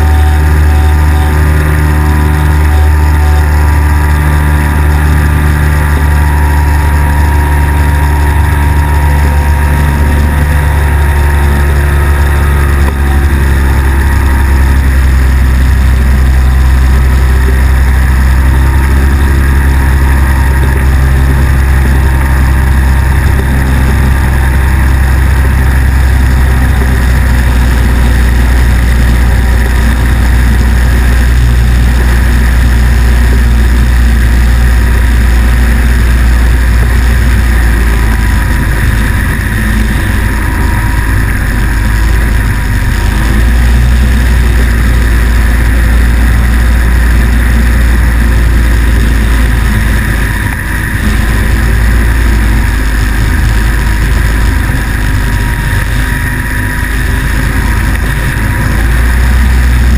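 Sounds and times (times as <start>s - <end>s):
microlight engine and propeller: 0.0s - 59.9s
wind rushing over microphone: 0.0s - 59.9s.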